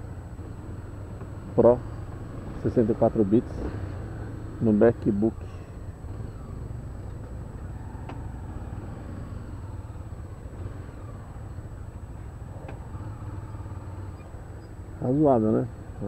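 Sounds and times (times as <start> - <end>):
motorcycle engine rumbling: 0.0 - 16.0
slow car traffic: 0.0 - 16.0.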